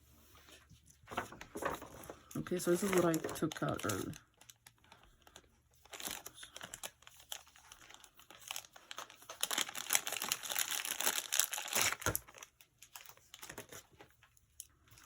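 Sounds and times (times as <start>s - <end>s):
plastic packaging crinkling: 1.0s - 15.0s.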